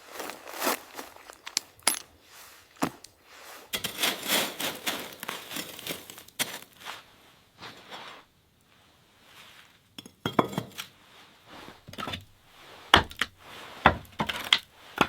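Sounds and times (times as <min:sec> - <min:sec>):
crunching and scraping: 0:00.0 - 0:08.2, 0:10.3 - 0:15.0.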